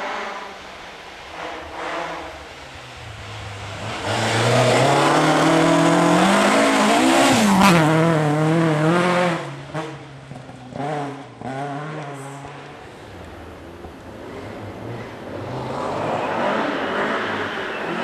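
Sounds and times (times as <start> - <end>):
rally car engine passing: 0.0 - 18.0.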